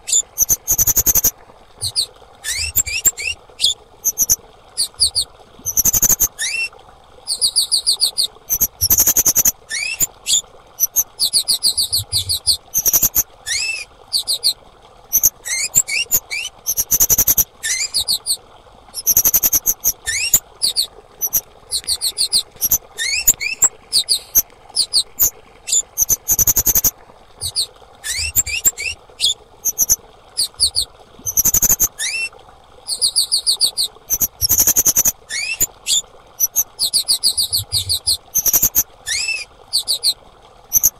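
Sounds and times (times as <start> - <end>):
insect high-pitched chirps: 0.1 - 6.3, 7.3 - 10.1, 10.8 - 14.5, 15.1 - 18.4, 19.0 - 31.9, 34.1 - 40.1.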